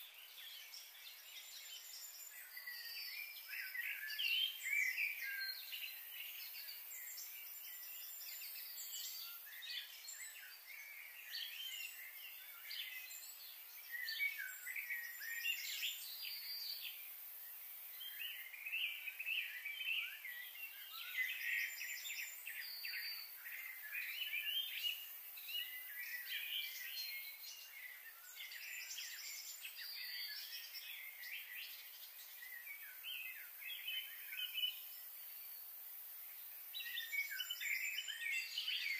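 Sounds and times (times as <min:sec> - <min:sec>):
faint steady background hiss: 0:00.0 - 0:38.9
small birds chirping and trilling: 0:00.0 - 0:38.9.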